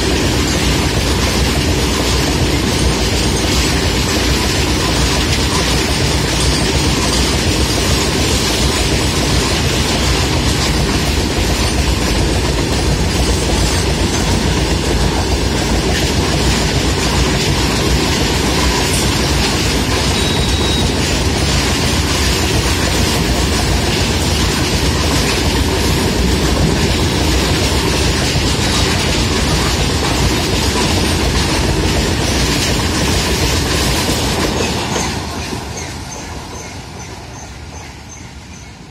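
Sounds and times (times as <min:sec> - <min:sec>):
freight wagon wheels rumbling on rails: 0:00.0 - 0:38.9.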